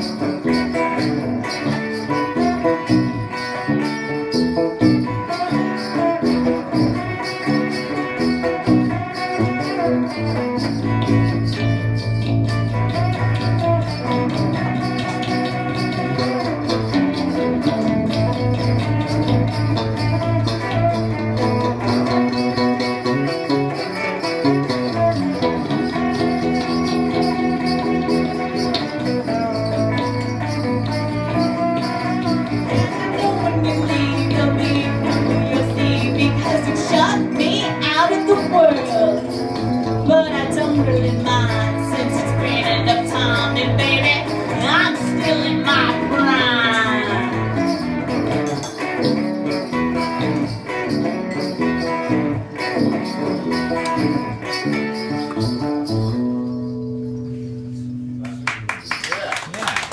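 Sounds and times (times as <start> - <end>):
electric guitar: 0.0 - 59.9.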